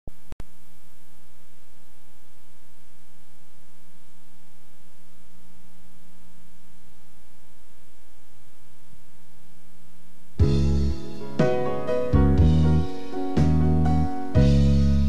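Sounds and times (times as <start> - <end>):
constant hiss: 0.1 - 15.0
electrical hum and buzz: 0.1 - 15.0.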